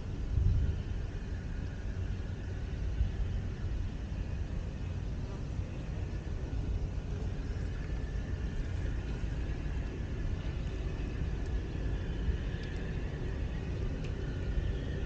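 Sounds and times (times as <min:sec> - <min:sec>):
faint high whine: 0:00.0 - 0:15.0
low outdoor rumble: 0:00.0 - 0:15.0.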